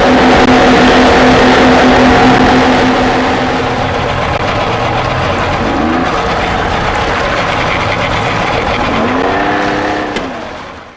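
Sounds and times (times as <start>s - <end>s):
outboard engines running: 0.0s - 10.9s.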